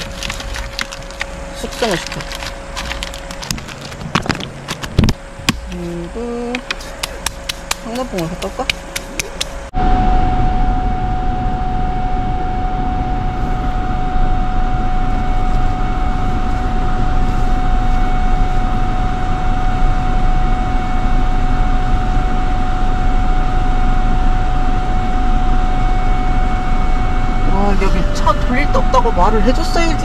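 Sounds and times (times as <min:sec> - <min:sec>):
engine and tyre rumble: 0:00.0 - 0:30.0.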